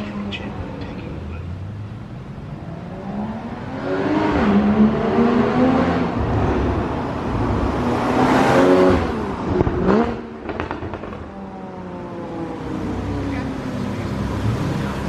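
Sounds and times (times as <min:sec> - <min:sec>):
car engine revving: 0:01.7 - 0:15.0.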